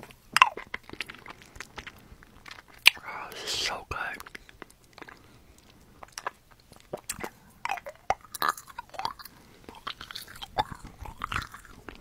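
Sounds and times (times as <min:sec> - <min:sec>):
candy chewing: 0:00.0 - 0:12.0.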